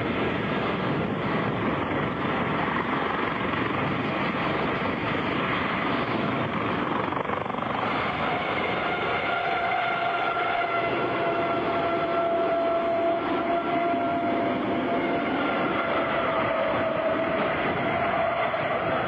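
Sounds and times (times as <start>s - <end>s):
helicopter rotor and turbine noise: 0.0s - 19.0s.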